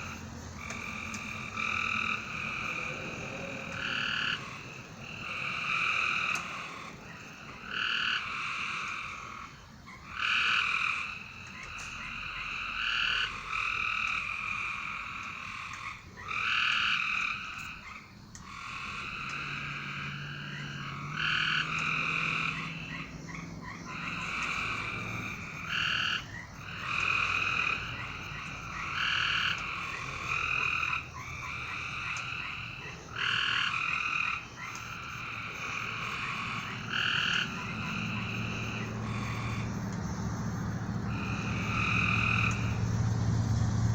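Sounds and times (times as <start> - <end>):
frogs calling: 0.0 - 43.9.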